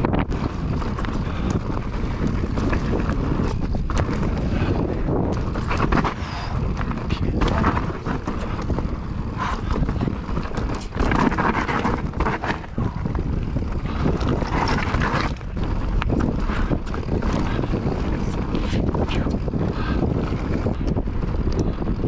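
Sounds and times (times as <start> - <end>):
bike clicks and knocks: 0.0 - 22.0
bike tyres rumbling on gravel: 0.0 - 22.0
wind noise on microphone: 0.0 - 22.0.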